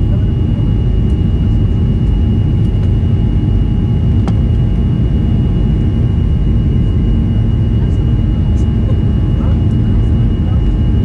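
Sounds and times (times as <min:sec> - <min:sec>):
high engine whine: 0:00.0 - 0:11.0
jet engines deep rumble: 0:00.0 - 0:11.0.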